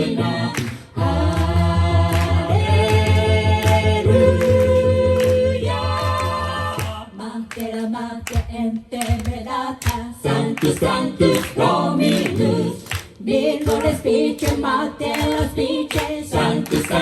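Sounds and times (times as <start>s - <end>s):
a cappella group singing chords: 0.0s - 17.0s.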